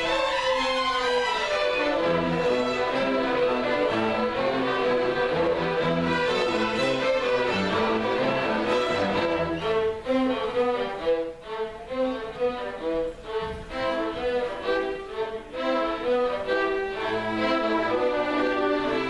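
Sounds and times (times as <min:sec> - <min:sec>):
bowed string music with violin: 0:00.0 - 0:19.0.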